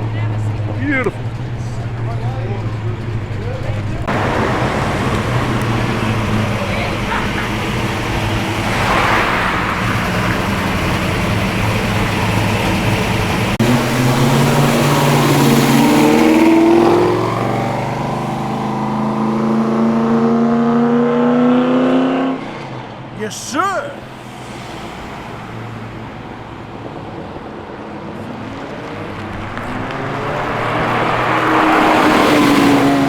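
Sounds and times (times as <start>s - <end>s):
car engine revving: 0.0s - 23.1s, 24.0s - 33.0s.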